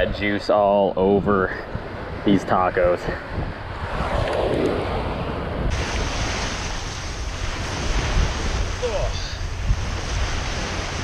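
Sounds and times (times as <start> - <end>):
wind buffeting microphone: 0.0 - 11.0
surf washing onto sandy beach: 0.2 - 11.0.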